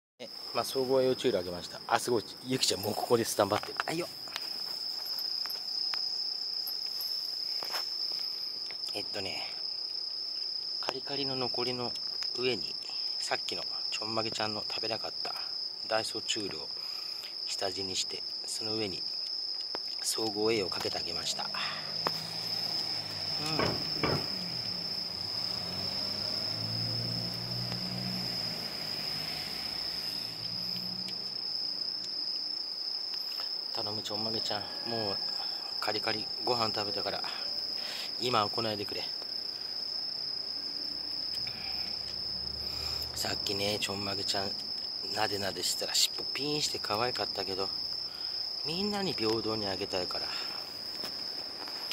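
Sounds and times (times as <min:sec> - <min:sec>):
crickets trilling: 0:00.2 - 0:51.9.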